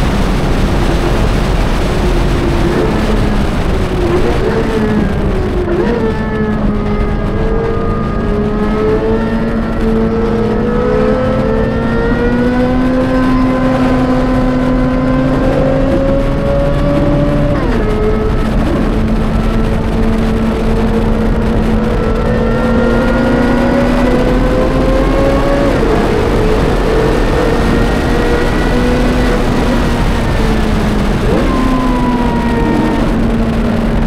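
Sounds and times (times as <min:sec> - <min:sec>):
sports car engine accelerating: 0:00.0 - 0:34.0.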